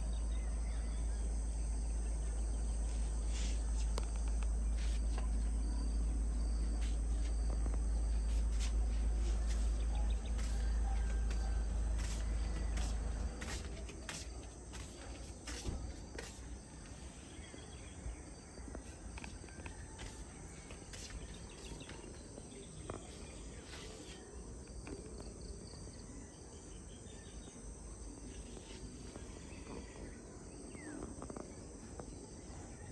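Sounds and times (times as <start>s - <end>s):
insects chirring: 0.0s - 32.9s.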